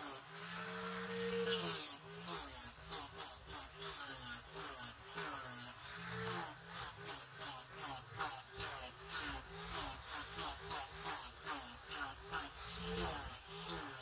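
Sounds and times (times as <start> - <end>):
disc sander on wood: 0.0 - 14.0.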